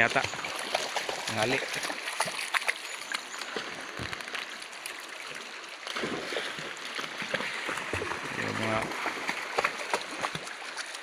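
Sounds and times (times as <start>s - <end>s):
shallow river flowing over stones: 0.0s - 11.0s
small water splashes: 0.0s - 11.0s.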